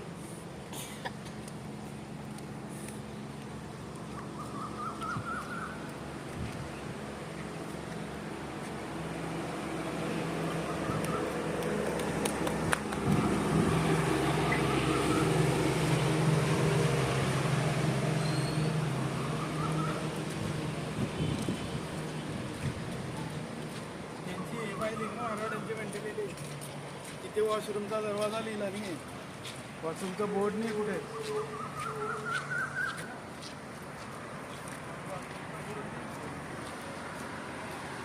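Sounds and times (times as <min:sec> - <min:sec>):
traffic noise: 0:00.0 - 0:38.0
vehicle engine humming: 0:00.0 - 0:38.0.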